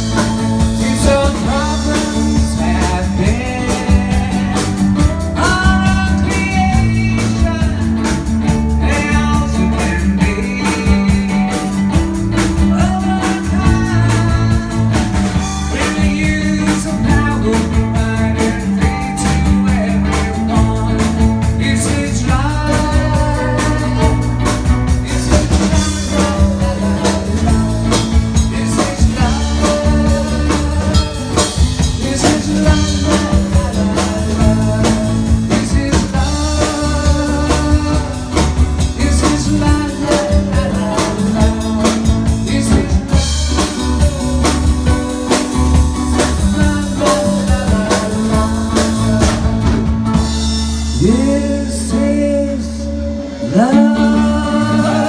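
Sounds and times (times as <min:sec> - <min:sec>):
live blues-rock band: 0:00.0 - 0:55.0.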